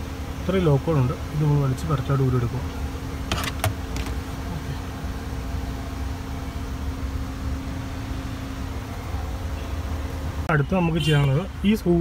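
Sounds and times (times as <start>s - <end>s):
faint constant tone: 0.0s - 12.0s.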